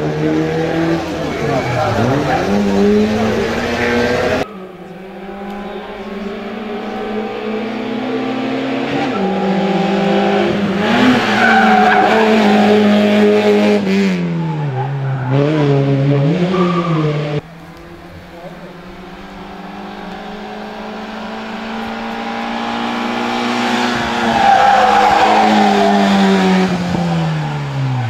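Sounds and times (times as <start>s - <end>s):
race car engine pulling uphill: 0.0s - 28.0s
racing engine at high revs: 0.0s - 28.0s.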